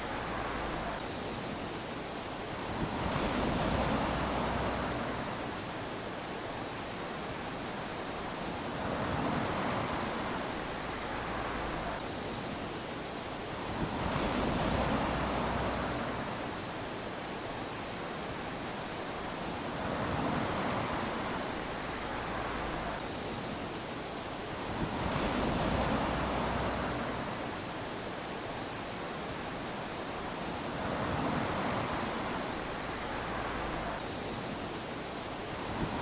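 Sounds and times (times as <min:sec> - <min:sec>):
small waves lapping on sandy shore: 0:00.0 - 0:36.0.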